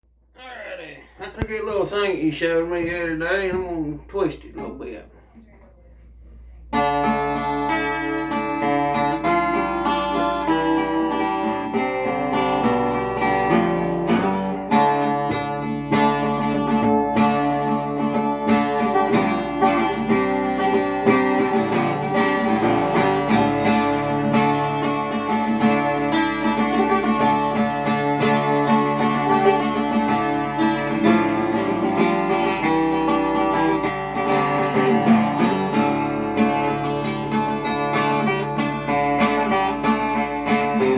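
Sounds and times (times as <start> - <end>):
acoustic guitar chords and notes: 0.1 - 40.9.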